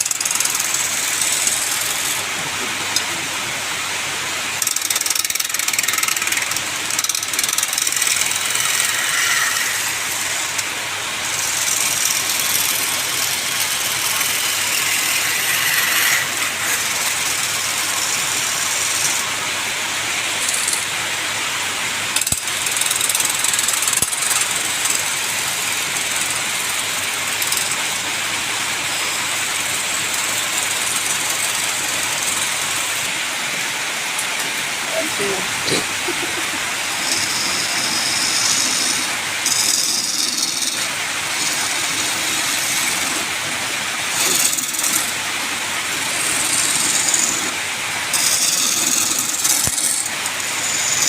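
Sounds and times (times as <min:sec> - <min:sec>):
wood lathe tool scraping: 0:00.0 - 0:03.2, 0:04.6 - 0:19.4, 0:20.3 - 0:21.0, 0:22.1 - 0:33.1, 0:34.4 - 0:43.4, 0:44.1 - 0:45.2, 0:45.9 - 0:51.0.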